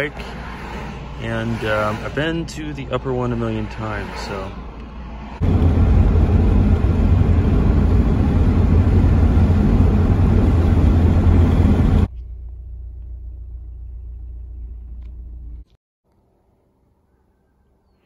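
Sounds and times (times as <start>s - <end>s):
car road and wind rumble: 0.0s - 15.8s.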